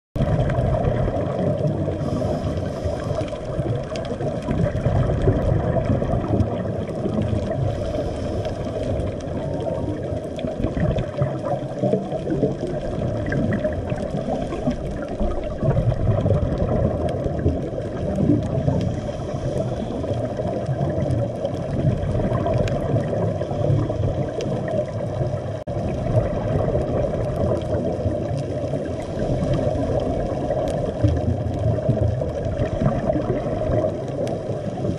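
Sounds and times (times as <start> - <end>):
muffled underwater rush: 0.2 - 34.9
faint clicks: 0.4 - 25.4, 26.7 - 34.9.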